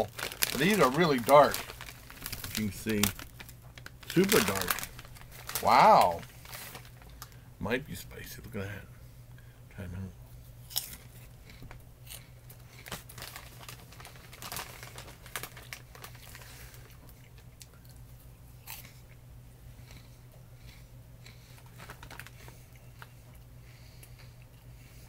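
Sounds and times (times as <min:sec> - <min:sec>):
crunching and chewing: 0:00.0 - 0:07.4, 0:10.6 - 0:25.0
faint low hum: 0:00.0 - 0:25.0.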